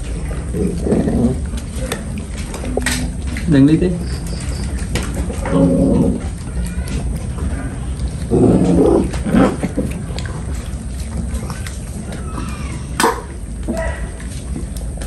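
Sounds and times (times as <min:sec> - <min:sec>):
puppies growling: 0:00.0 - 0:15.0.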